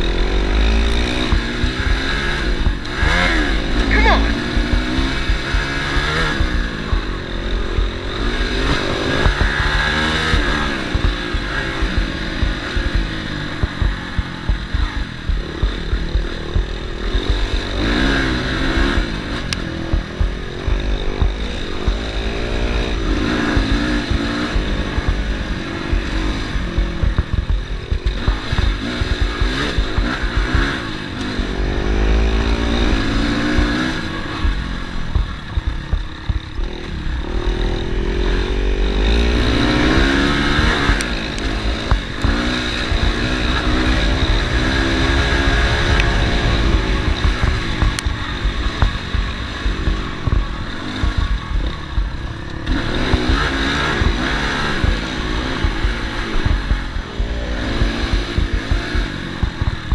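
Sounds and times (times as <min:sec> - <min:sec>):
dirt bike engine revving: 0:00.0 - 0:59.9
wind rumble on microphone: 0:00.0 - 0:59.9.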